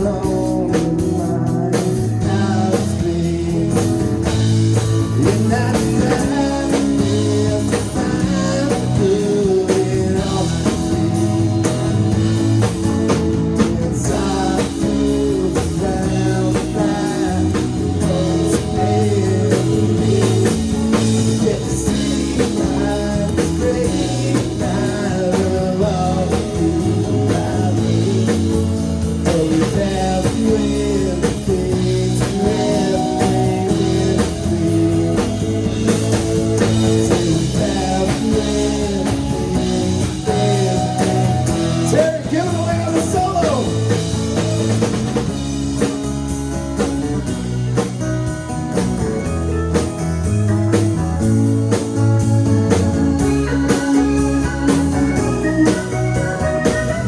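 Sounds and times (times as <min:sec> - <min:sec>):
bass guitar: 0:00.0 - 0:57.0
drum kit: 0:00.0 - 0:57.0
lead guitar with bending notes: 0:00.0 - 0:57.0.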